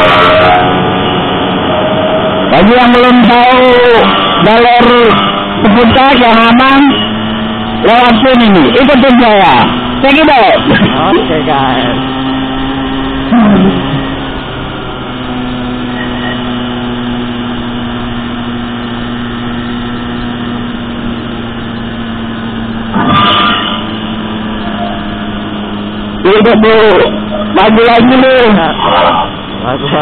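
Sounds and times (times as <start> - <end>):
motorbike engine running: 1.7 - 23.0, 23.8 - 30.0.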